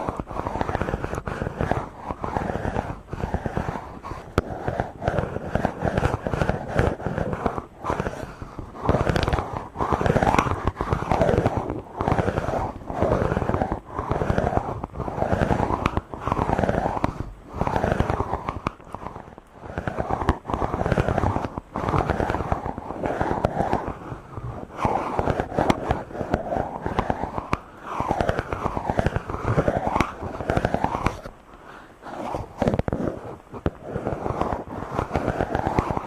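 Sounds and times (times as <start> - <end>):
fingers rubbing on microphone: 0.0 - 36.0.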